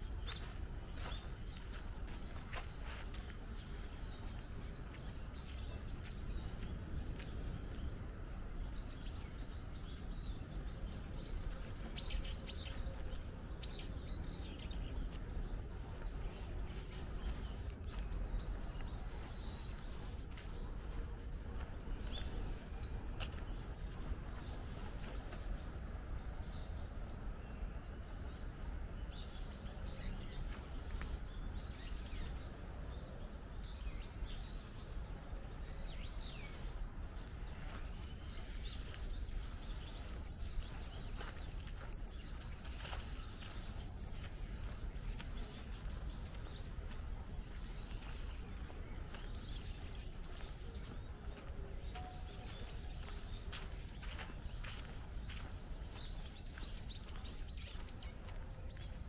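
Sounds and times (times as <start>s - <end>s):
birds chirping: 0.0s - 59.0s
low outdoor rumble: 0.0s - 59.0s.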